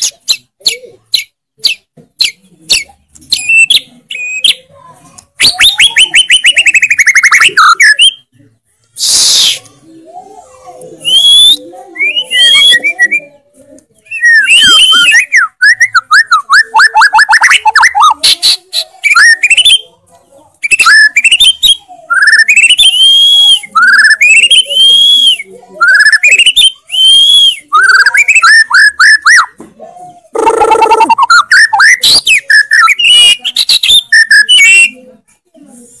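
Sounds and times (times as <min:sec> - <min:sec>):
songbird singing trills and whistles: 0:00.0 - 0:04.7, 0:05.4 - 0:08.3, 0:11.0 - 0:13.3, 0:14.0 - 0:19.9, 0:20.5 - 0:29.6, 0:30.4 - 0:35.0.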